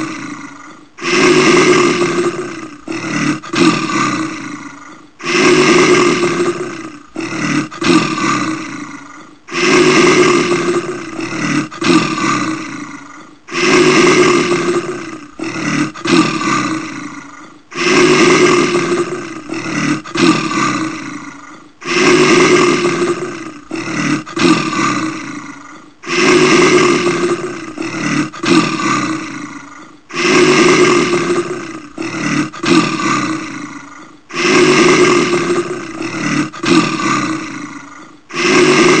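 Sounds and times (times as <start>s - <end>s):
bear roaring: 0.0s - 39.0s.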